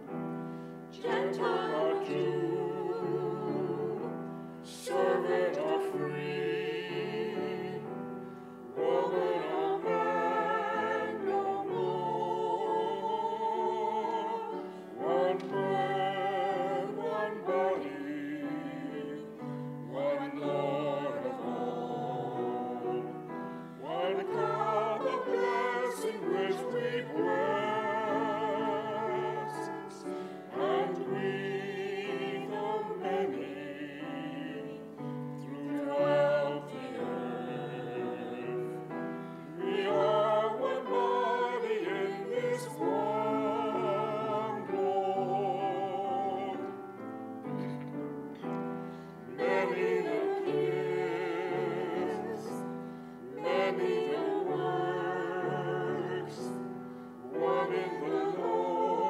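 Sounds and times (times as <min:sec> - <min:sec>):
choir singing a hymn: 0:00.0 - 0:59.0
piano accompaniment: 0:00.0 - 0:59.0.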